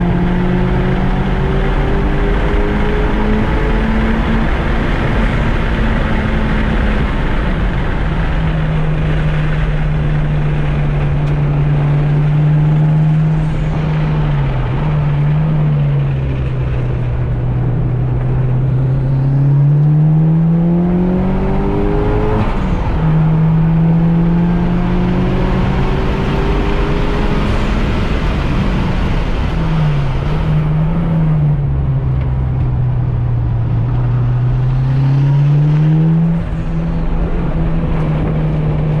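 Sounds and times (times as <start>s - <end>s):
car engine revving through gears: 0.0s - 32.9s, 33.5s - 39.0s.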